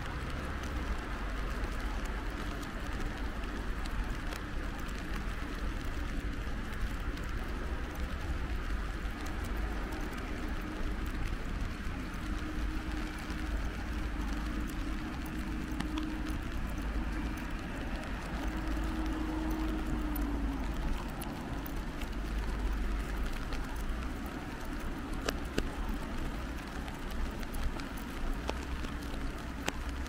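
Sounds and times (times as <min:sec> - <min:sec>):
faint steady hum: 0:00.0 - 0:30.0
rain drops ticking: 0:00.0 - 0:30.0
rain hissing: 0:00.0 - 0:30.0.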